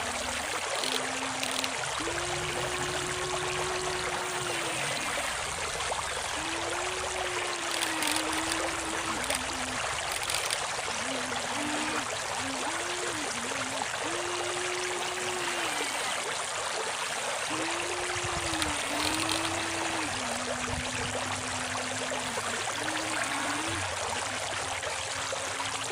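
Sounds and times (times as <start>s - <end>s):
toy electric motors humming: 0.0s - 16.4s, 17.4s - 25.9s
river water flowing: 0.0s - 25.9s.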